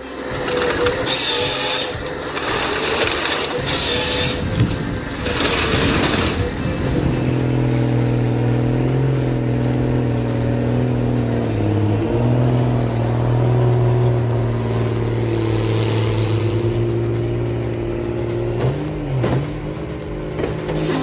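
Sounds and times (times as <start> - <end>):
heavy diesel engine under load: 0.0 - 21.0.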